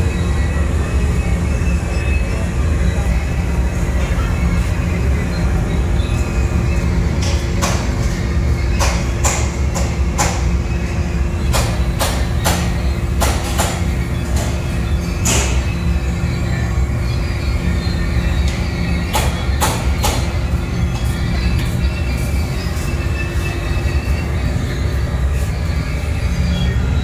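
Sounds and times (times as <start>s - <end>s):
conveyor rumbling and humming: 0.0s - 27.0s.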